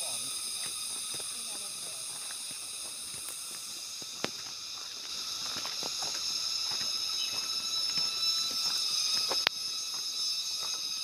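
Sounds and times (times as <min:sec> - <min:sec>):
insects buzzing: 0:00.0 - 0:11.0
footsteps crunching on gravel: 0:00.4 - 0:10.9.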